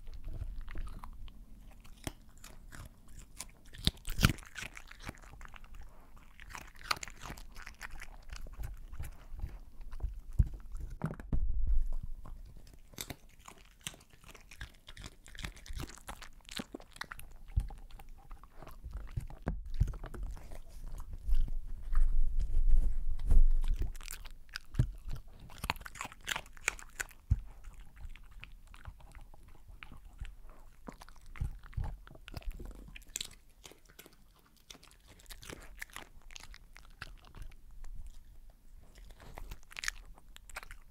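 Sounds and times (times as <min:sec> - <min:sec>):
dog chewing and licking: 0:00.0 - 0:11.2, 0:11.8 - 0:40.9.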